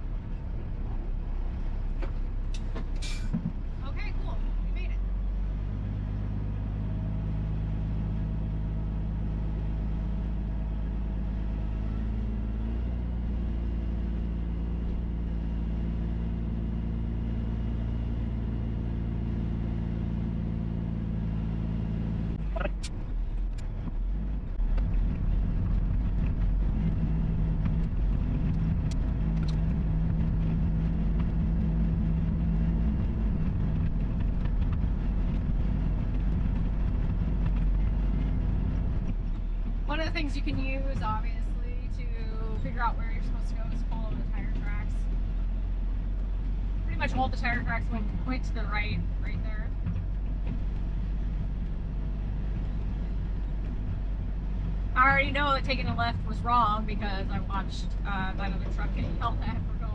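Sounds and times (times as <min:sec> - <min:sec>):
diesel truck engine running: 0:00.0 - 0:59.9
truck rumbling over rutted dirt: 0:00.0 - 0:59.9.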